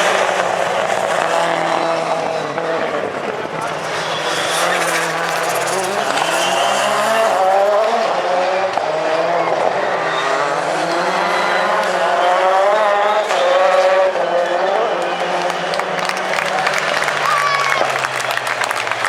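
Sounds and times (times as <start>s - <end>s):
race car engines at full throttle: 0.0s - 19.0s.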